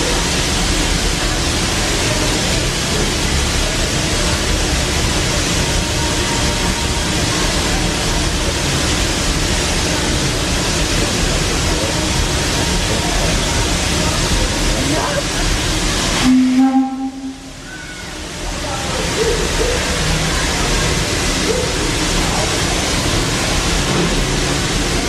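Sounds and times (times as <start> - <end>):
steam hissing from locomotive: 0.0 - 25.0.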